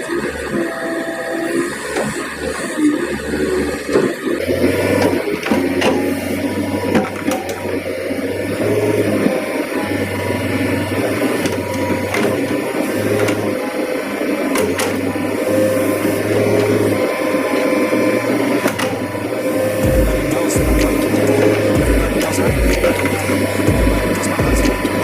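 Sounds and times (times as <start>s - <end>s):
diesel engine and hydraulics: 0.0s - 25.0s.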